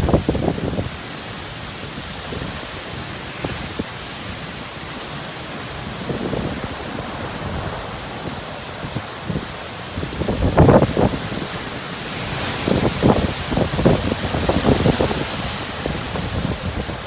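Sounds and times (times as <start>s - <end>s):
heavy rain hiss: 0.0s - 17.0s
wind gust: 0.0s - 17.0s.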